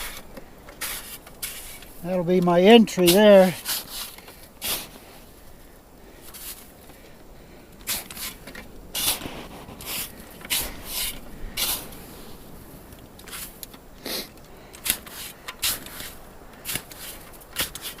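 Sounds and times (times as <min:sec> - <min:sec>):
snow shovel scraping snow: 0:00.0 - 0:02.0, 0:02.7 - 0:05.4, 0:06.3 - 0:06.8, 0:07.8 - 0:18.0.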